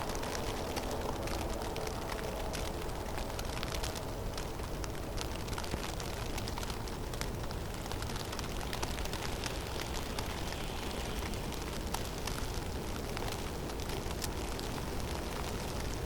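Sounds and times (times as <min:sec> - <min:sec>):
snow ticking on surfaces: 0:00.0 - 0:16.0.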